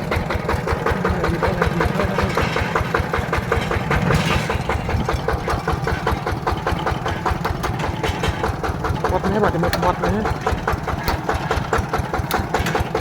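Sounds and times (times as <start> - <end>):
tractor diesel engine chugging: 0.0 - 13.0.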